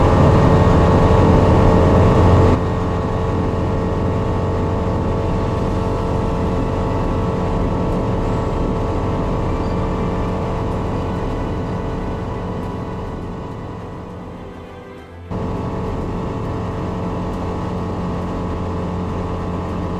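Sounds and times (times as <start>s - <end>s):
ultralight aircraft engine: 0.0s - 19.9s.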